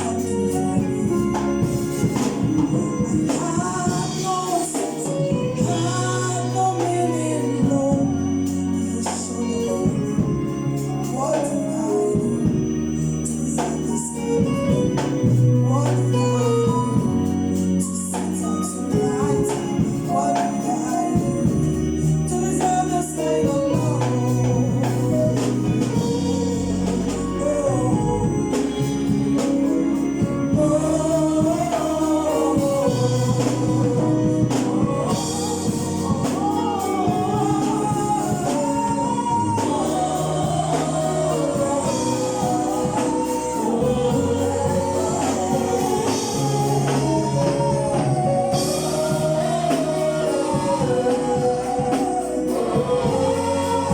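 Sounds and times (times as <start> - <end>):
bass line: 0.0 - 53.9
gospel choir singing: 0.0 - 53.9.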